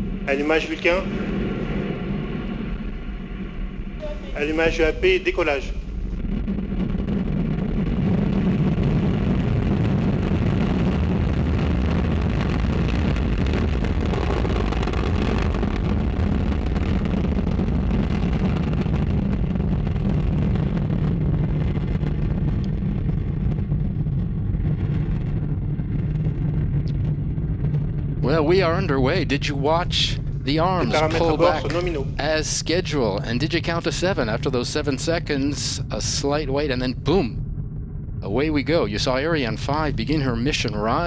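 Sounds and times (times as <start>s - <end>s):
rocket engines rumbling: 0.0s - 41.0s.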